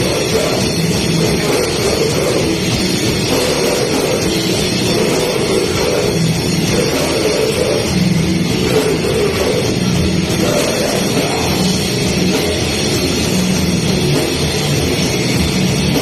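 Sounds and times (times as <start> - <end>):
death metal band playing: 0.0 - 16.0.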